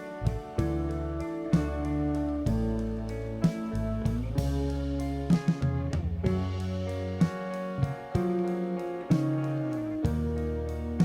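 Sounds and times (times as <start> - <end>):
plucked guitar: 0.0 - 11.0
sustained bass notes: 0.0 - 11.0
steady beat: 1.6 - 11.0.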